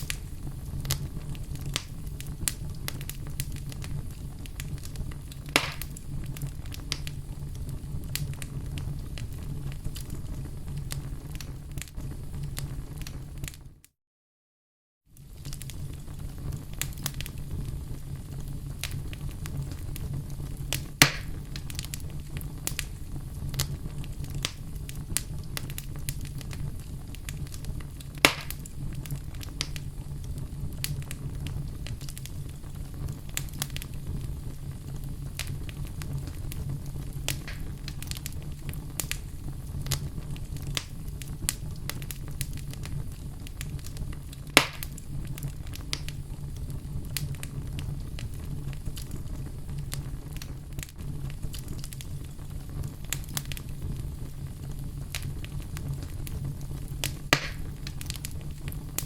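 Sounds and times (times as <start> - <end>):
fire pops: 0.0 - 13.8, 15.2 - 59.0
fire rumbling and crackling: 0.0 - 13.9, 15.0 - 59.0.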